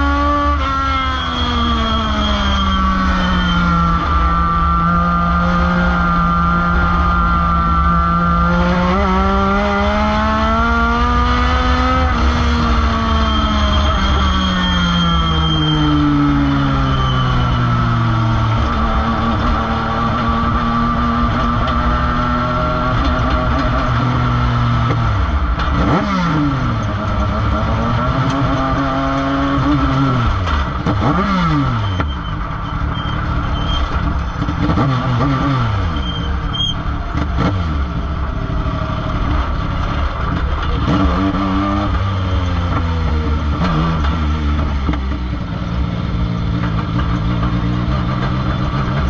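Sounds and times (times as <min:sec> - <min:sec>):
race car engine: 0:00.0 - 0:49.0.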